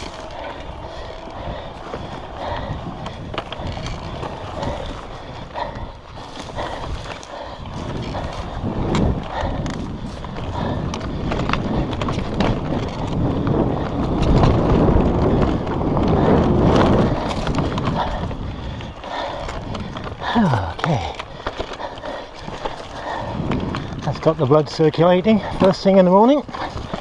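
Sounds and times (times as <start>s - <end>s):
bike knocks and rattles: 0.0s - 27.0s
tyres on bumpy dirt trail: 0.0s - 27.0s
wind rushing over microphone: 0.0s - 27.0s.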